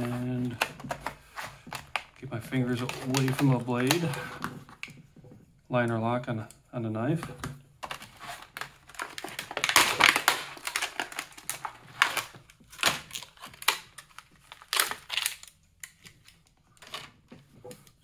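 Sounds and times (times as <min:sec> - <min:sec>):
plastic blister pack crackling: 0:00.0 - 0:05.0, 0:07.8 - 0:18.0.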